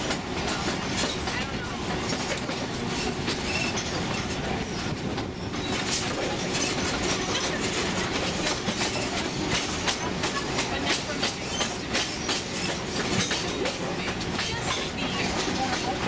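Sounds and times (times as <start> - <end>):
track clicks and clatter: 0.0 - 16.0
train wheels rumbling on rails: 0.0 - 16.0.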